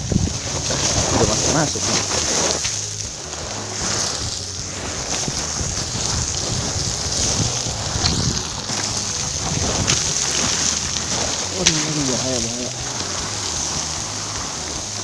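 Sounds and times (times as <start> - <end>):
boots crunching on scree: 0.0 - 15.0
wind buffeting microphone: 0.0 - 15.0.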